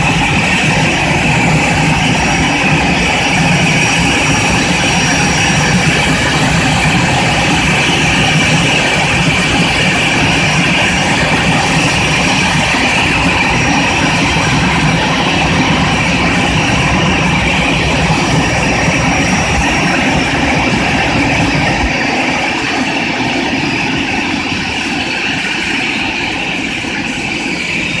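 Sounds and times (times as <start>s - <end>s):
turbine engine whine: 0.0s - 28.0s.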